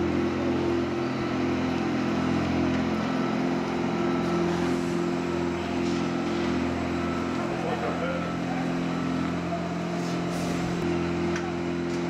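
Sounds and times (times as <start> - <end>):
truck engine and pump droning: 0.0 - 12.0.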